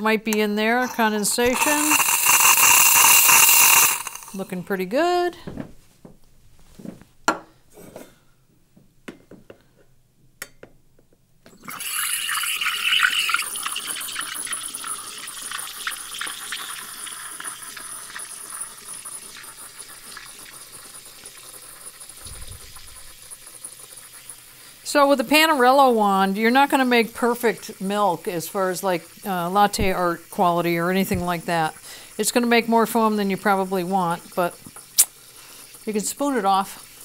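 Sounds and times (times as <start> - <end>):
steam wand frothing milk: 0.0 - 4.6, 11.5 - 37.0.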